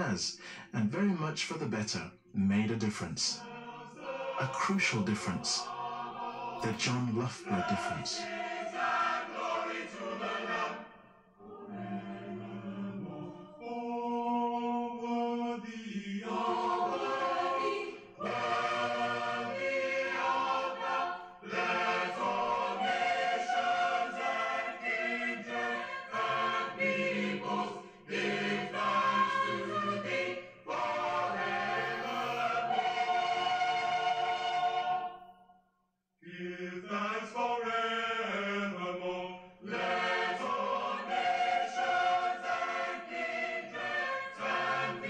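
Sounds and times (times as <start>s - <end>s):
choir singing: 2.5s - 35.5s, 36.2s - 45.0s.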